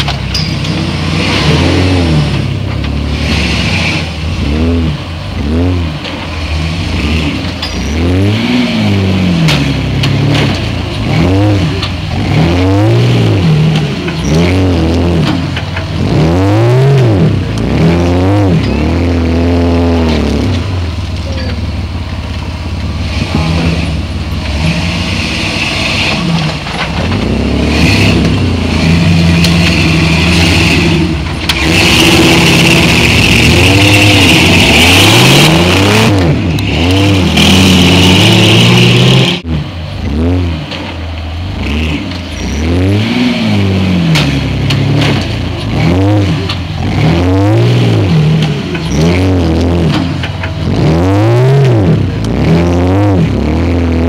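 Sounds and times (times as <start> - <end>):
buggy engine revving: 0.0 - 54.0
engine throttle blips: 0.0 - 54.0.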